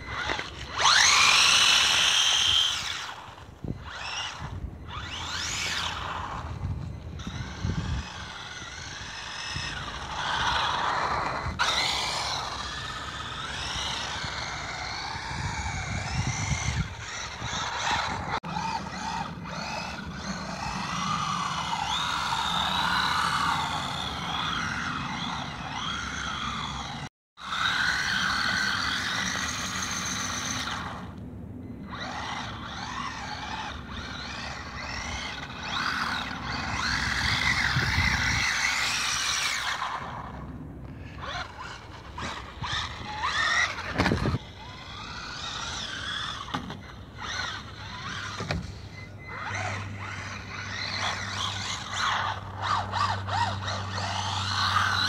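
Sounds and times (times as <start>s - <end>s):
toy car electric motor whining: 0.0s - 55.0s.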